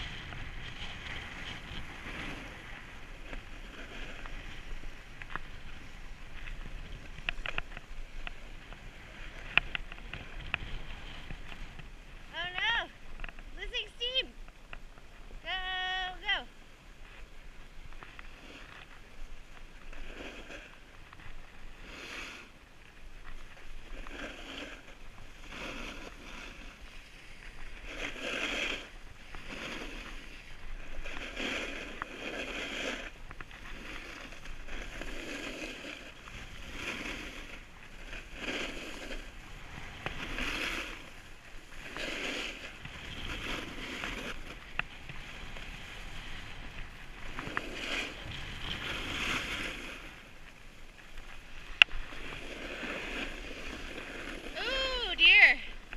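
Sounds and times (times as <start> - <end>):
rush of sliding on snow: 0.0 - 55.9
skis carving through snow: 0.0 - 55.9.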